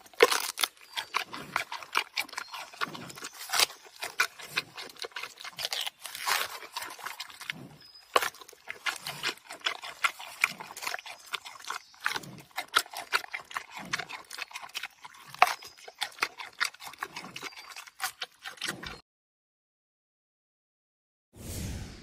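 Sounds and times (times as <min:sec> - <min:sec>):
panda crunching bamboo: 0:00.0 - 0:19.0.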